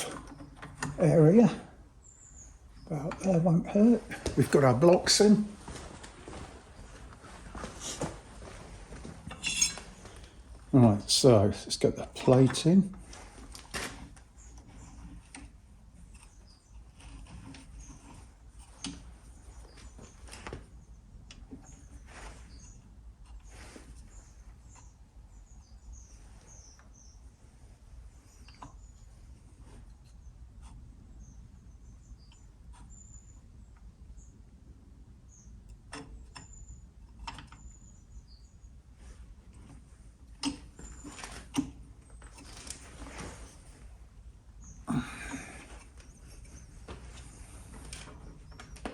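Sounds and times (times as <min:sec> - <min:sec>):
birds chirping faintly: 0:00.0 - 0:48.9
low background hum: 0:00.0 - 0:48.9.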